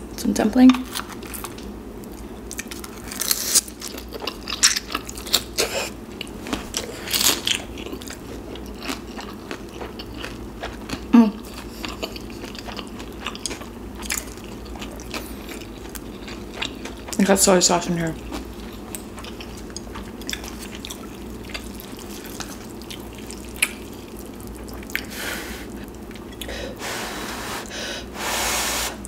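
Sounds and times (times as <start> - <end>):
wet chewing sounds: 0.7 - 17.5, 18.1 - 26.6.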